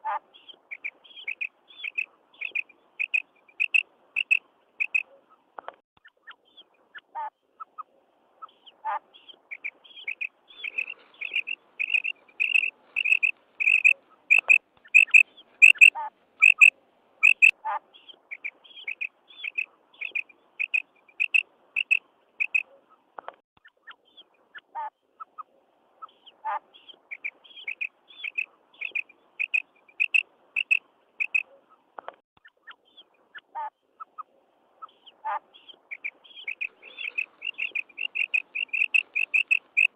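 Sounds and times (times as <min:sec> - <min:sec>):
quail high chirps: 0:00.0 - 0:05.2, 0:06.2 - 0:22.8, 0:24.1 - 0:31.6, 0:32.6 - 0:39.9.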